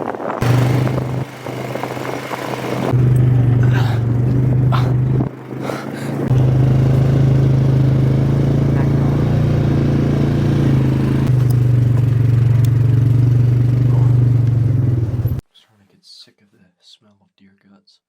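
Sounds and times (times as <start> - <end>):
vehicle engine humming: 0.1 - 15.4.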